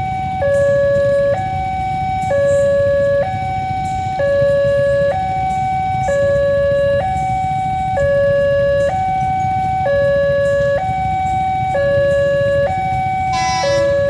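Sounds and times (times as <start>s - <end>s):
motorcycle engines rumbling: 0.0s - 14.0s
two-tone level-crossing alarm: 0.0s - 14.0s.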